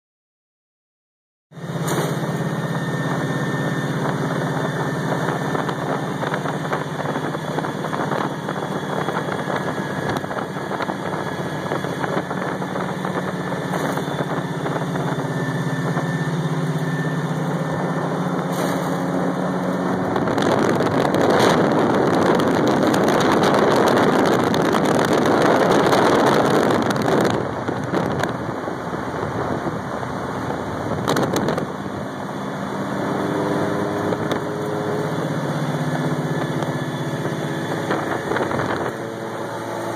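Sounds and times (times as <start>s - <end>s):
supercharger whine: 1.6s - 39.9s.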